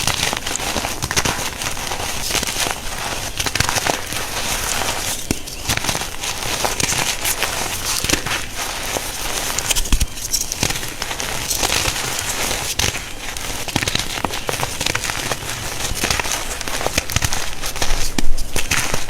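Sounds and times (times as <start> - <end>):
chalk block crunching: 0.0 - 19.0.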